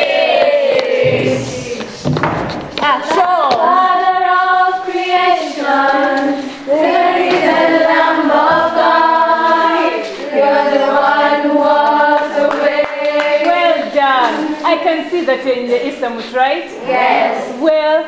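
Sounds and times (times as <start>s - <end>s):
girls singing in chorus: 0.0s - 2.1s, 2.9s - 14.8s, 16.7s - 17.8s.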